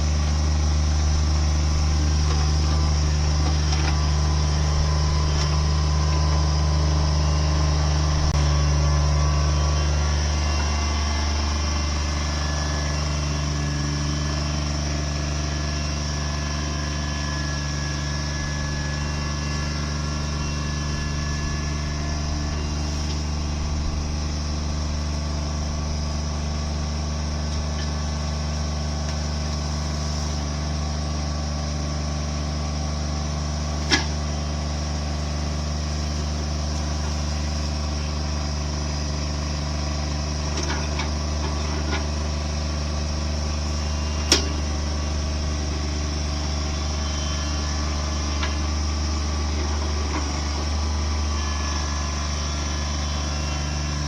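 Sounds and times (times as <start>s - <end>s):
heavy machine engine running: 0.0s - 54.0s.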